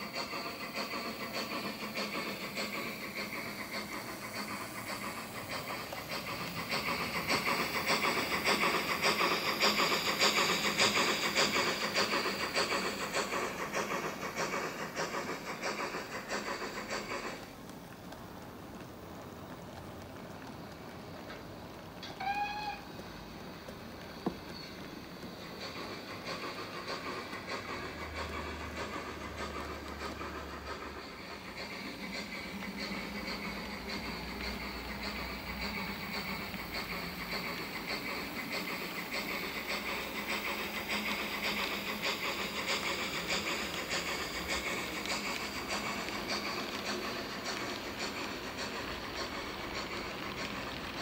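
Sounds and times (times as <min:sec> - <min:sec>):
model train wheels rattling: 0:00.0 - 0:51.0
steam locomotive exhaust chuffs: 0:00.0 - 0:51.0.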